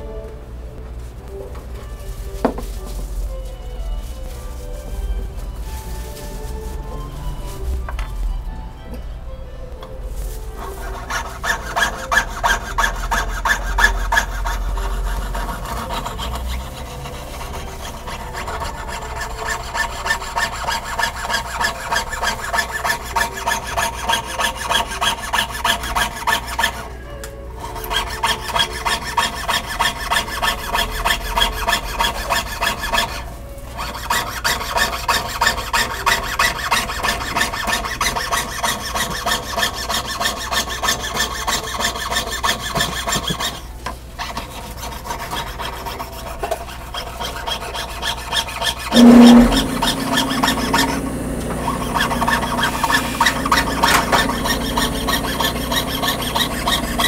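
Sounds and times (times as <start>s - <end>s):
saw blade rasping through metal: 10.6s - 57.0s.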